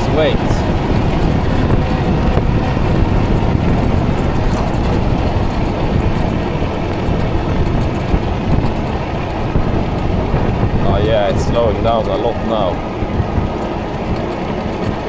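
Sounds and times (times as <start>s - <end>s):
road and tyre noise: 0.0s - 15.0s
wind buffeting microphone: 0.0s - 15.0s.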